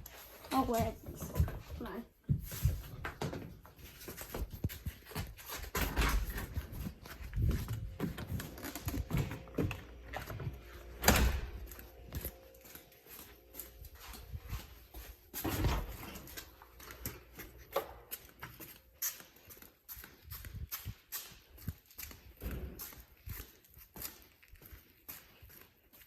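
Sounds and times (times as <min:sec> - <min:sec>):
footsteps: 0:00.0 - 0:26.0.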